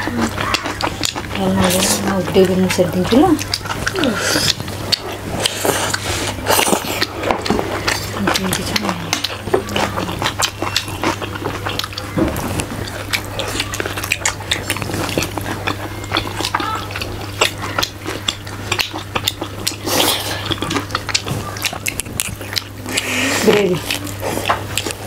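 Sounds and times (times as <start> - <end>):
steady low hum: 0.0 - 25.0
wet chewing and lip-smacking: 0.0 - 25.0.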